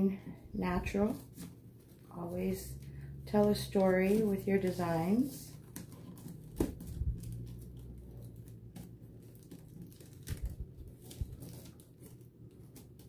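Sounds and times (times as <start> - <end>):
artificial foliage rustling: 0.3 - 13.0.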